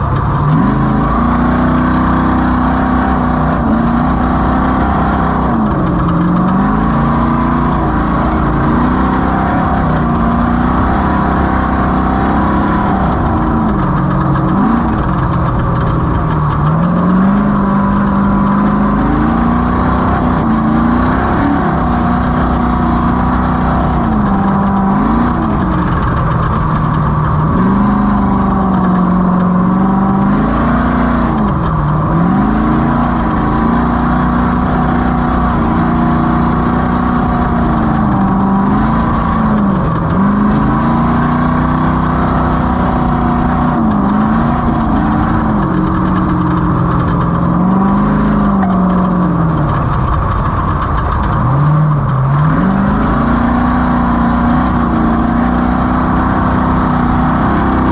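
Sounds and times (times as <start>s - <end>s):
race vehicle engine revving: 0.0s - 57.9s.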